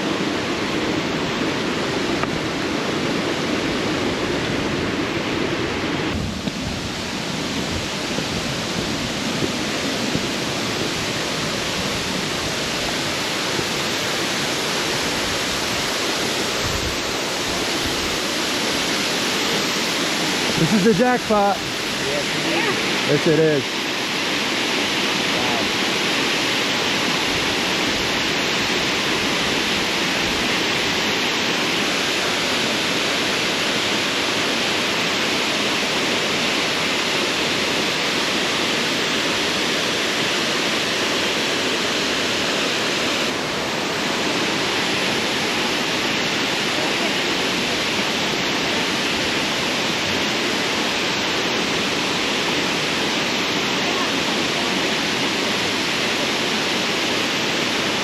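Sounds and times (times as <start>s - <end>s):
waterfall rushing loudly: 0.0s - 58.0s.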